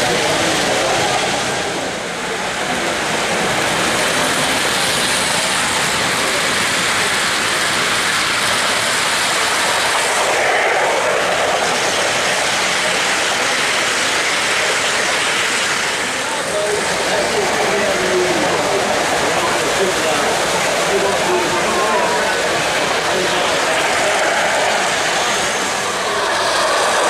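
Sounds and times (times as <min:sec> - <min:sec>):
model train wheels on rails: 0:00.0 - 0:27.0.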